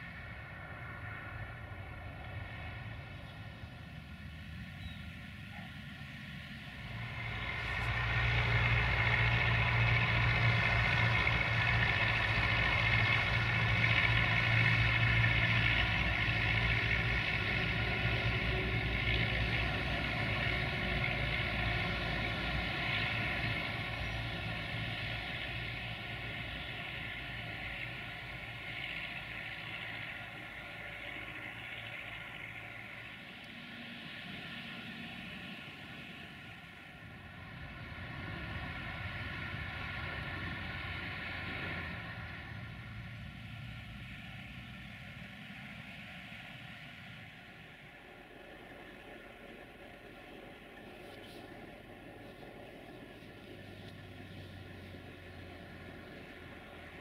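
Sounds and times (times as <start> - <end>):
tractor and truck diesel engines: 0.0 - 57.0.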